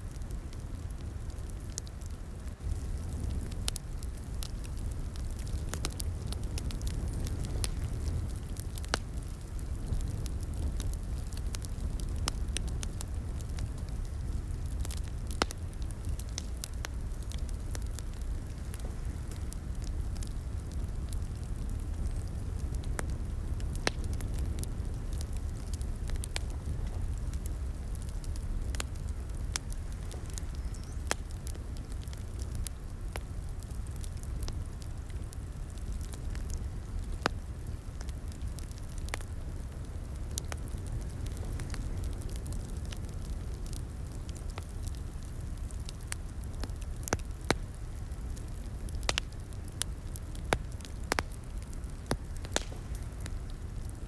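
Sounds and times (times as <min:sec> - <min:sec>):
wood fire crackling: 0:00.0 - 0:54.0
fire pops and snaps: 0:00.1 - 0:54.0.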